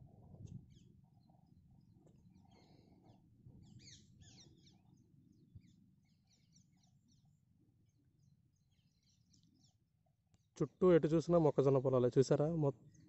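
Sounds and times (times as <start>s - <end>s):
small birds twittering: 0.2s - 13.0s.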